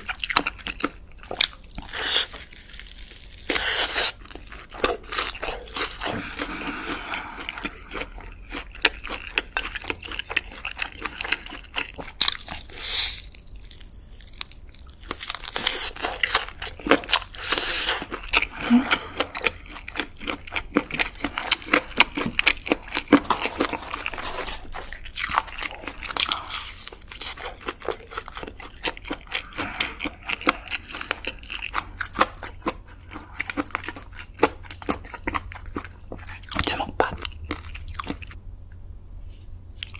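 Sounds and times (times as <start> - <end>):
crunchy biting and chewing: 0.0 - 38.4.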